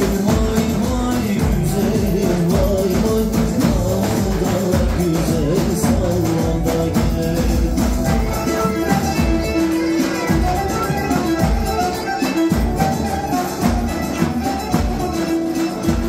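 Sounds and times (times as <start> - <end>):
bass drums beating: 0.0 - 16.0
sustained melody line: 0.0 - 16.0.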